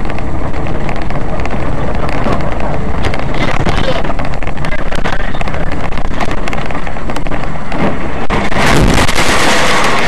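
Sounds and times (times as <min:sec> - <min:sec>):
microphone crackles: 0:00.0 - 0:09.8
car road and engine rumble: 0:00.0 - 0:10.0.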